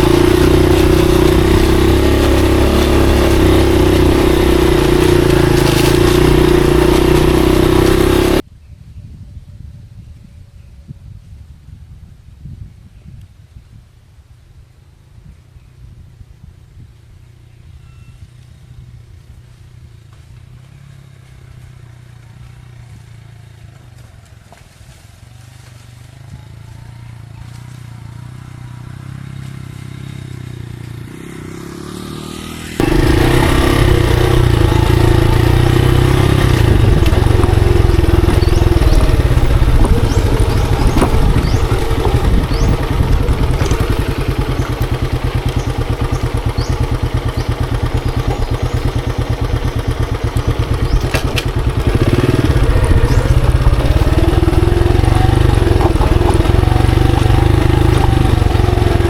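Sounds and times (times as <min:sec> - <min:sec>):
motorcycle engine running: 0:00.0 - 0:08.5, 0:14.9 - 0:59.0.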